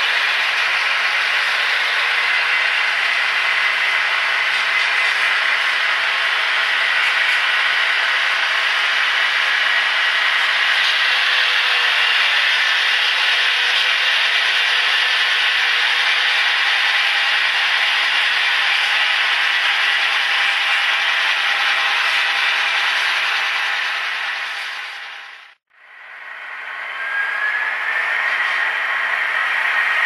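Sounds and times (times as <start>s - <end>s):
hissing locomotive sound from speaker: 0.0s - 25.4s.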